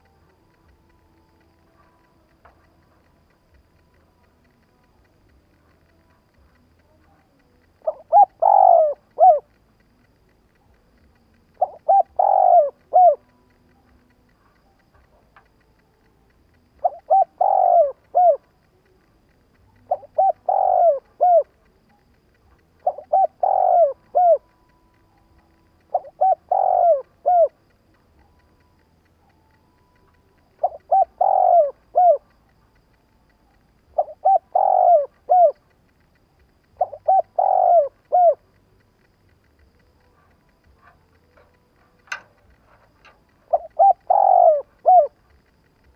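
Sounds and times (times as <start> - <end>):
dove cooing: 1.6 - 15.6, 16.6 - 19.0, 19.7 - 32.4, 33.4 - 35.8, 36.5 - 39.1, 39.7 - 45.9.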